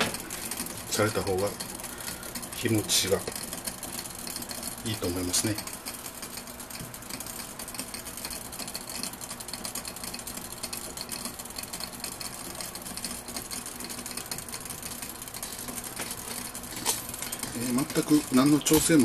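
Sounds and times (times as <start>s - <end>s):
water boiling in glass flask: 0.0s - 19.0s.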